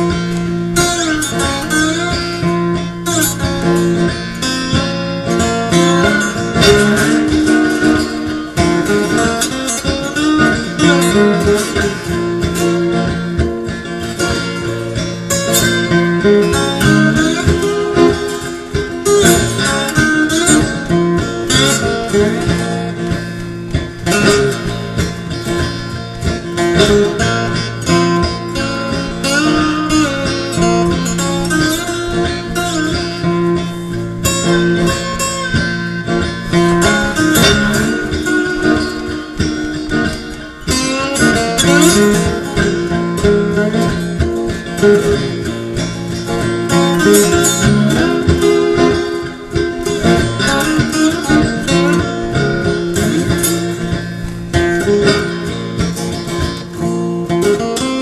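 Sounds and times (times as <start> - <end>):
guitar riff plucked and strummed: 0.0 - 58.0.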